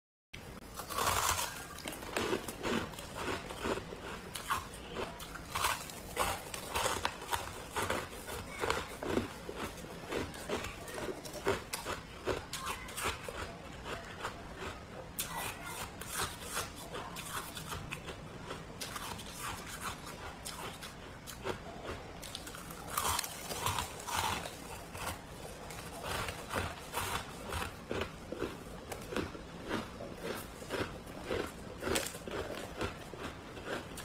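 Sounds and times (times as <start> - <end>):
frost being chewed: 0.6 - 34.0.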